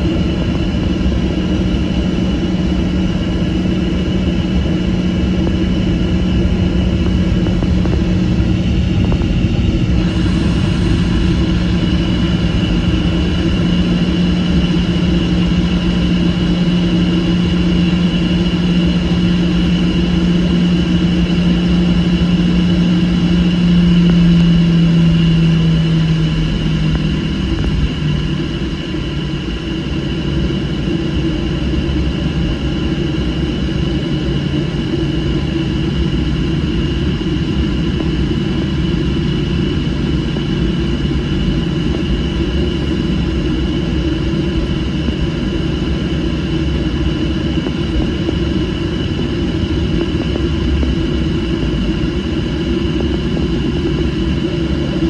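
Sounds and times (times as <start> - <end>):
jet engines roaring in cabin: 0.0 - 55.0
low engine hum: 0.0 - 55.0.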